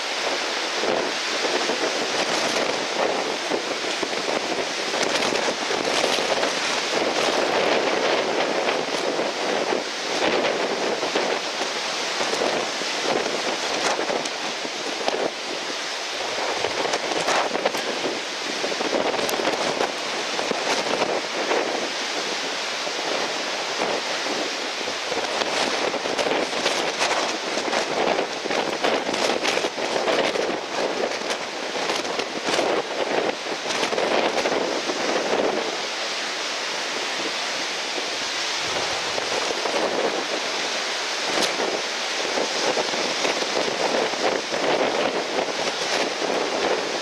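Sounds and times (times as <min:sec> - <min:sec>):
breaking surf: 0:00.0 - 0:47.0
wind on microphone: 0:00.0 - 0:47.0.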